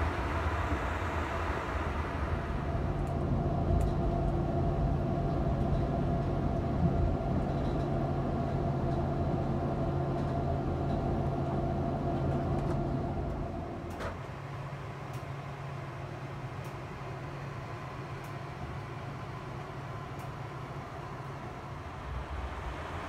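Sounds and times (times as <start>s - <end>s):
moving train rumble and hum: 0.0s - 23.0s.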